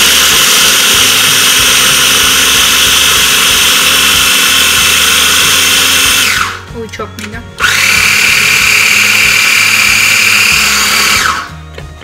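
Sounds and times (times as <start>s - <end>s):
electric food chopper grinding: 0.0s - 6.7s, 7.6s - 11.6s.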